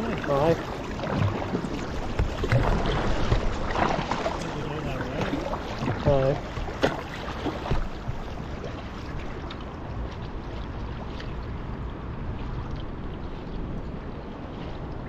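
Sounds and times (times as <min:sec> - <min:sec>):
small splashes: 0:00.0 - 0:15.0
water lapping against kayak hull: 0:00.0 - 0:15.0.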